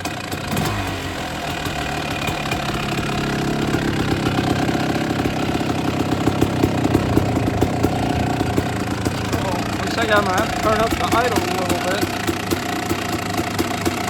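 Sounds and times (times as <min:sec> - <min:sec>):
two-stroke motorbike engine idling: 0:00.0 - 0:14.0.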